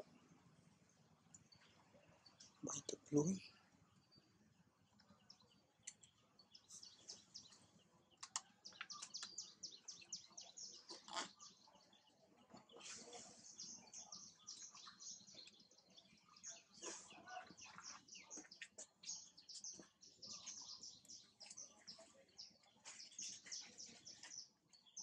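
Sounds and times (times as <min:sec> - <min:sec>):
faint high bird chirps: 0:01.3 - 0:25.0.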